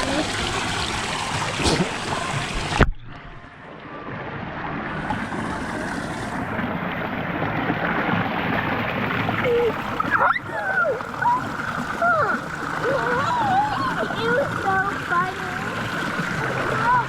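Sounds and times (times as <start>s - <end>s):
low underwater rumble: 0.0s - 17.0s
rushing water: 0.0s - 17.0s.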